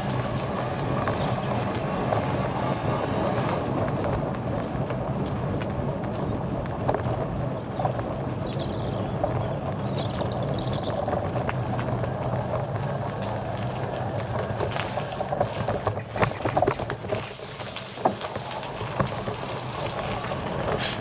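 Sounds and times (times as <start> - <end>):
bicycle tyre noise: 0.0 - 21.0.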